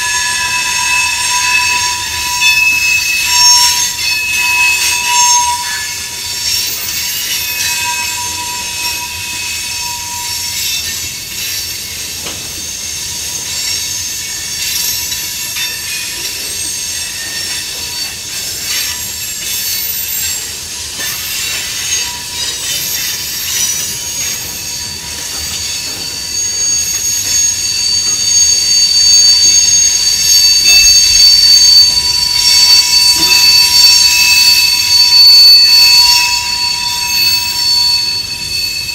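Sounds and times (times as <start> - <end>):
train wheels squealing on rail: 0.0 - 38.9.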